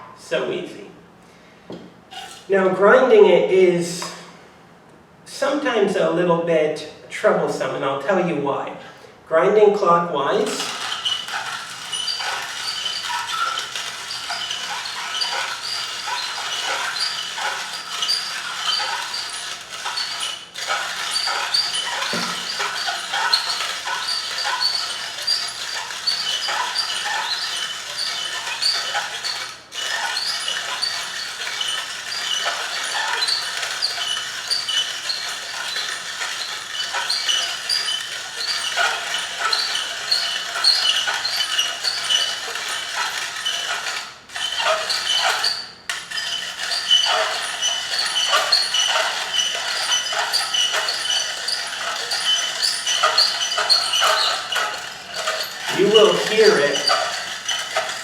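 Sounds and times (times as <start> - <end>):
grinder squeaks: 2.1 - 2.6, 10.3 - 58.0
hand coffee grinder crunching: 10.4 - 58.0.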